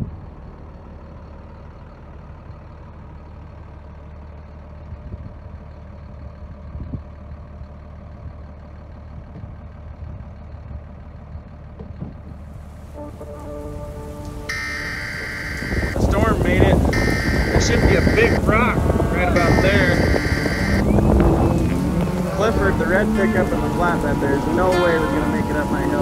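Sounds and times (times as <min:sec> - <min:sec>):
diesel tractor engine idling: 0:00.0 - 0:26.0.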